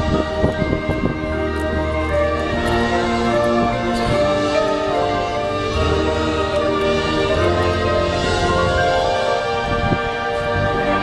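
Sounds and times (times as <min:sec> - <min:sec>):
marching band wind chords: 0:00.0 - 0:11.0.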